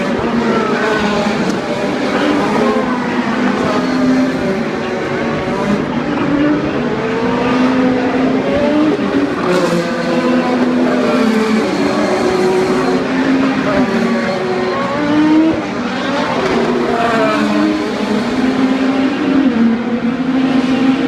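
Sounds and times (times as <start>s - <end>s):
race car engines running hard: 0.0s - 21.0s.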